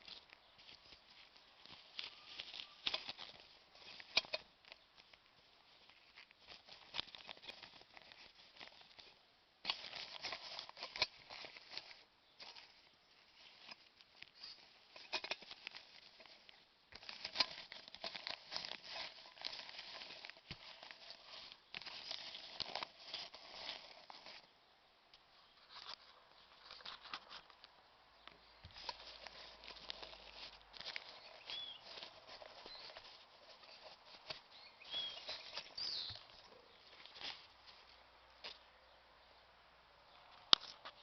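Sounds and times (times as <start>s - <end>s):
small objects clicking and rustling: 0.0s - 24.5s, 25.6s - 38.7s.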